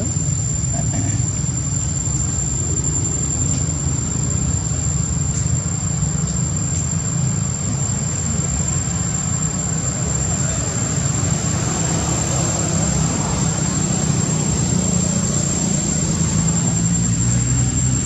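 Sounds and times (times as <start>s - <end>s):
high-pitched whine: 0.0s - 18.0s.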